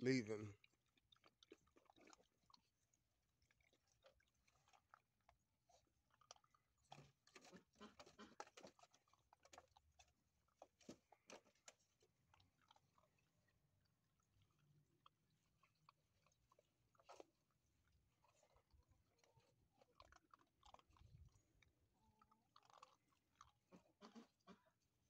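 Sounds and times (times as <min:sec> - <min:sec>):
puppies crunching dog food: 0:00.6 - 0:25.0.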